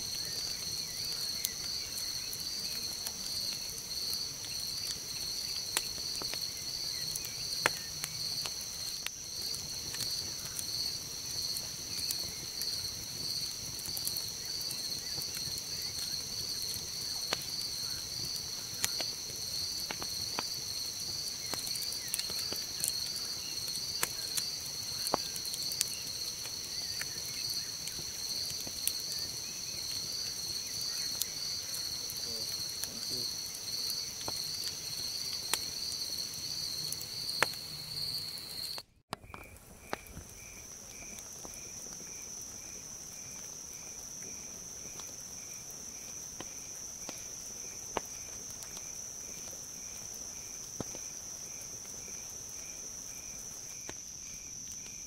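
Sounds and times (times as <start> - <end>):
campfire crackling and popping: 0.0 - 55.0
crickets chirping: 0.0 - 55.0.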